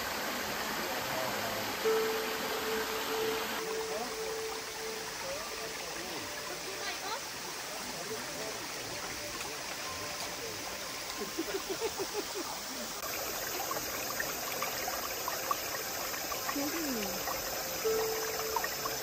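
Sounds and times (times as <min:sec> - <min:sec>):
stream trickling over stones: 0:00.0 - 0:19.0.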